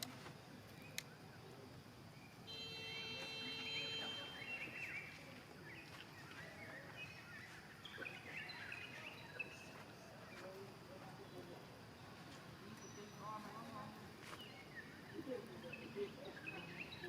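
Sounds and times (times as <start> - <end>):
birds chirping: 0.0 - 17.0
outdoor background noise: 0.0 - 17.0.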